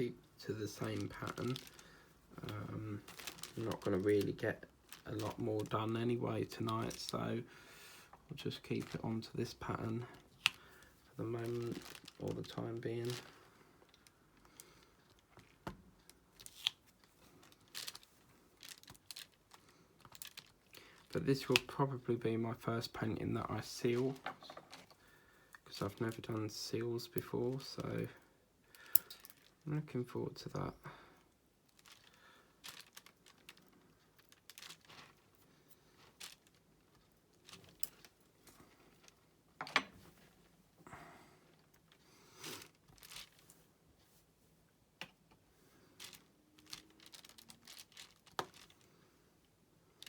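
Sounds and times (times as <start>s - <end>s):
plastic crinkling: 0.0s - 7.4s, 8.3s - 21.8s, 22.9s - 28.1s, 28.7s - 29.7s, 31.6s - 39.2s, 41.4s - 43.7s, 45.1s - 49.0s.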